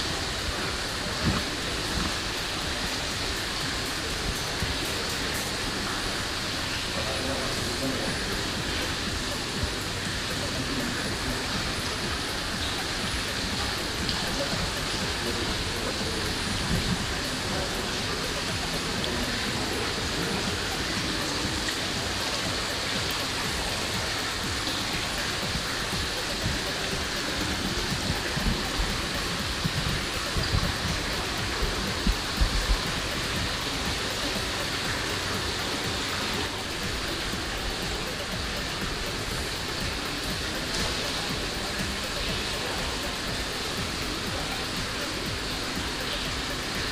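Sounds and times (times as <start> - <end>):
falling water splashing: 0.0 - 46.9.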